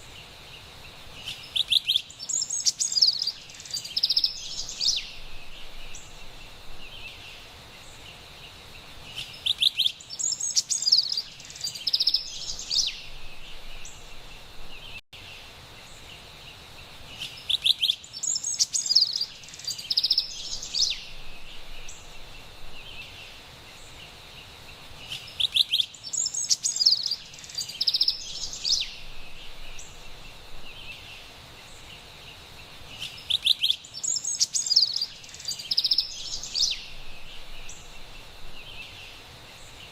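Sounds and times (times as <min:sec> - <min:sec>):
faint high hiss: 0:00.0 - 0:39.9
wren singing: 0:01.1 - 0:15.0, 0:17.1 - 0:39.9.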